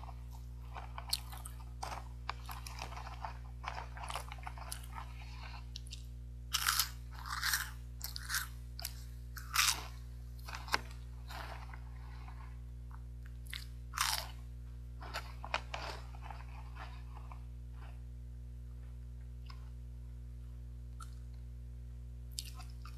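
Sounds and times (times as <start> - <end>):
crunching and chewing snacks: 0.0 - 18.1, 20.9 - 21.4, 22.3 - 22.9.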